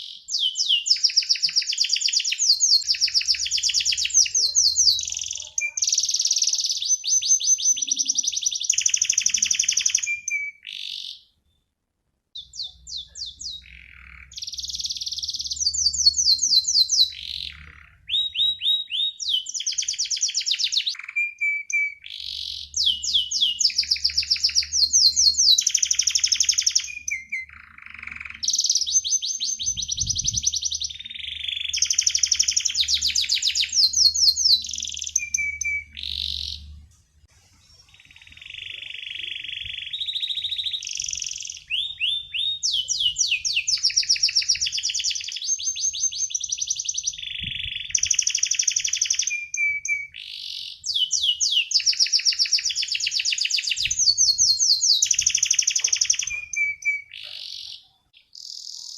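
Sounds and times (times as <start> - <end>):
canary trilling and chirping: 0.0 - 11.3, 12.4 - 36.8, 37.9 - 58.9.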